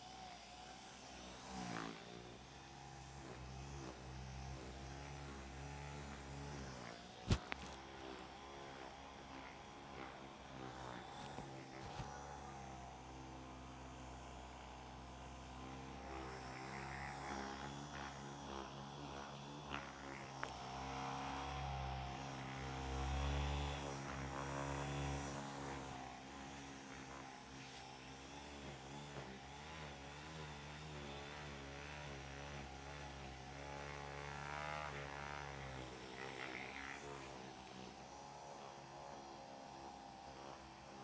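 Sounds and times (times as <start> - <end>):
massager motor buzzing: 0.0 - 41.0.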